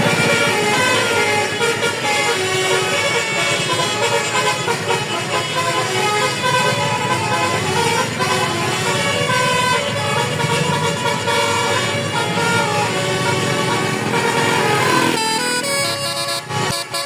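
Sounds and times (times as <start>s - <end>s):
bus engine rumble: 0.0s - 17.0s
bus musical horn playing a tune: 0.0s - 17.0s.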